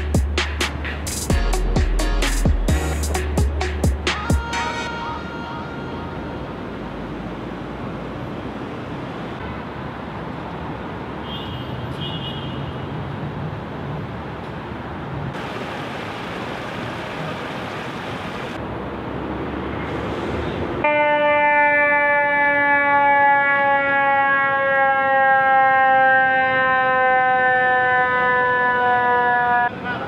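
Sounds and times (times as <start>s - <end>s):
city traffic hum: 0.0s - 30.0s.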